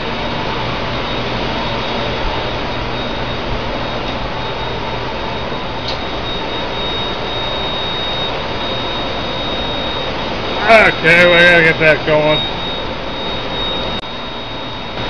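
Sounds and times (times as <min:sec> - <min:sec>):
cooling fans rushing: 0:00.0 - 0:15.0
thin high whine: 0:00.0 - 0:15.0.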